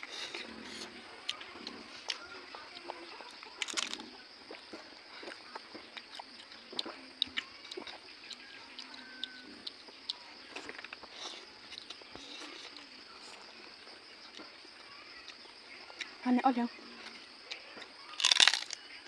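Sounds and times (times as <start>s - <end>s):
chewing and wet mouth noises: 0.0s - 19.0s.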